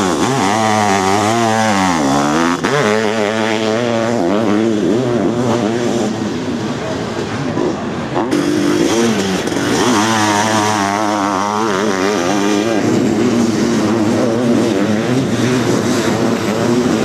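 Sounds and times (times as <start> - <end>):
engine revving up and down: 0.0 - 17.0
motorcycle engines running hard: 0.0 - 17.0.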